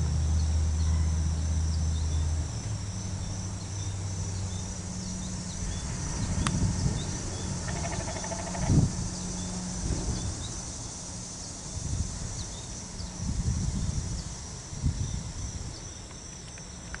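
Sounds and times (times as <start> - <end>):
low rumbles: 0.0 - 15.8
high-pitched insect chorus: 0.0 - 17.0.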